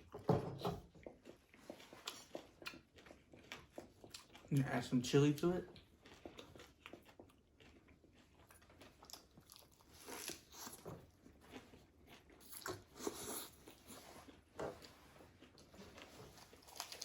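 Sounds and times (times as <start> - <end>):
crunching and chewing crispy food: 0.8 - 17.0.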